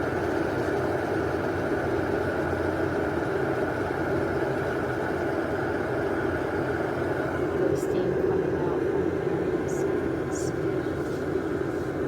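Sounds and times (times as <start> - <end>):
electric kettle water boiling: 0.0 - 12.0.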